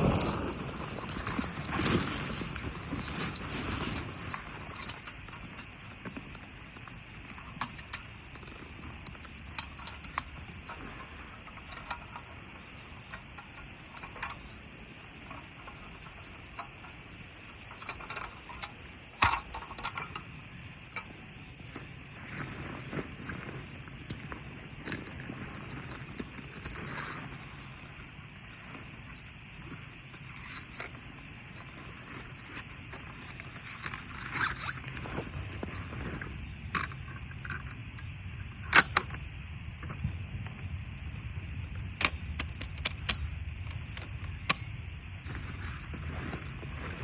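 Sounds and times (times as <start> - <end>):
crickets chirring: 0.0 - 47.0.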